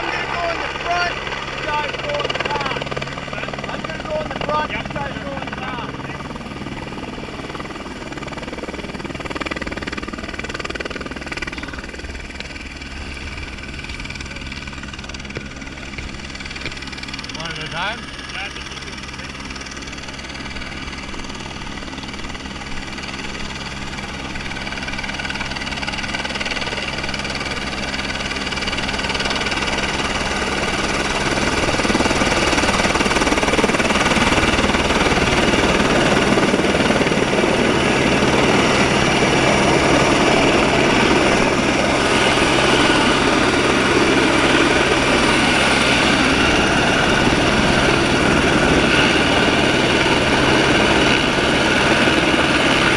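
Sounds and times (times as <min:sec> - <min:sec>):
helicopter engine and rotor: 0:00.0 - 0:52.9.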